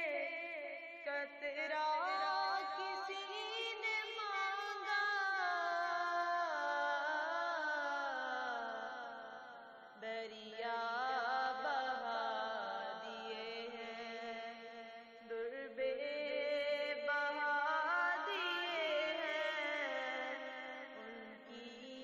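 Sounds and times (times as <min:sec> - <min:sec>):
person chanting: 0:00.0 - 0:09.4, 0:10.0 - 0:22.0.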